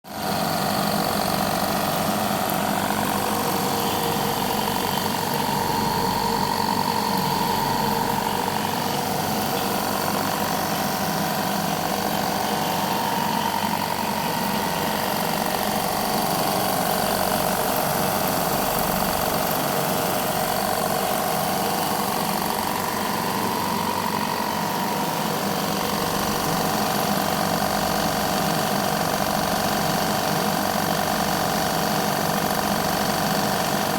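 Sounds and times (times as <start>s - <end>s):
air compressor running: 0.1s - 33.9s.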